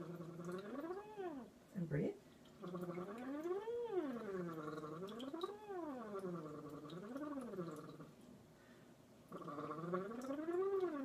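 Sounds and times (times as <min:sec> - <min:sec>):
water bubbling: 0:00.0 - 0:01.5, 0:02.4 - 0:08.2, 0:09.3 - 0:11.0.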